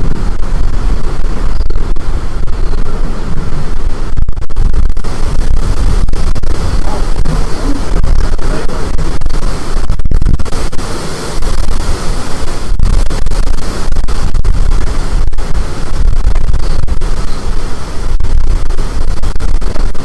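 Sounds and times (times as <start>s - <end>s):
storm-force wind buffeting microphone: 0.0s - 20.0s.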